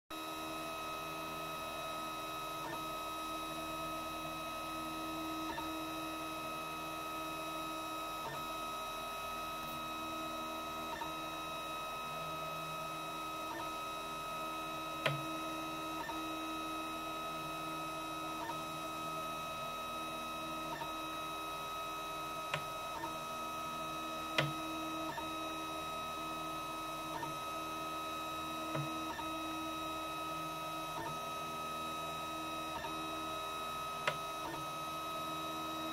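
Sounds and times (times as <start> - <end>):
printer humming: 0.2 - 35.9.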